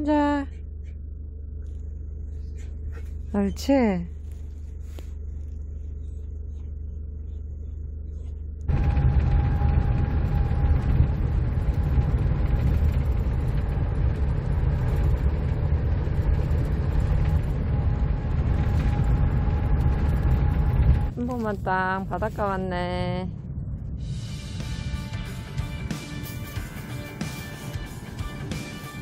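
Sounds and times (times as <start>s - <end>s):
engine and road rumble inside van: 0.0s - 29.0s.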